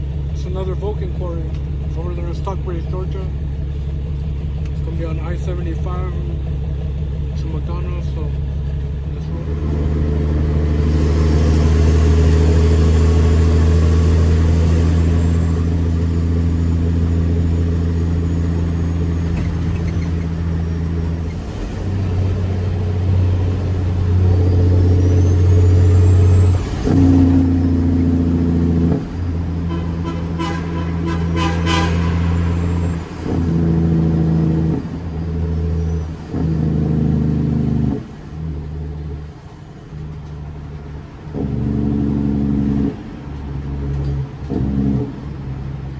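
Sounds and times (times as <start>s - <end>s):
truck diesel engine shifting gears: 0.0s - 45.9s.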